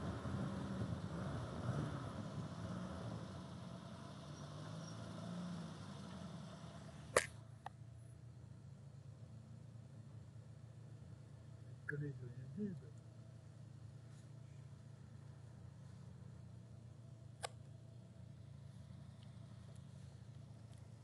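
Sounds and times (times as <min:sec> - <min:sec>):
car engine running: 0:00.0 - 0:21.0
road noise: 0:00.0 - 0:21.0.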